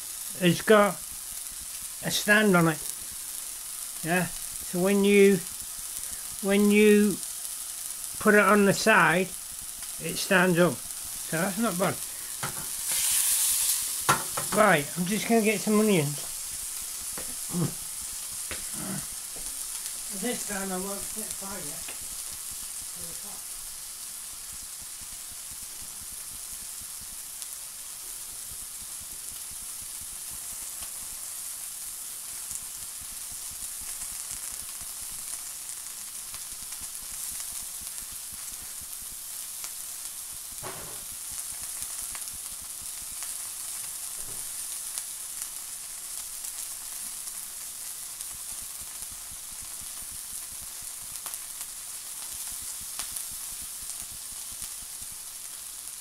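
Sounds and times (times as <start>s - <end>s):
burger patty sizzling in a pan: 0.0s - 56.0s
spitting fat crackle: 0.1s - 56.0s.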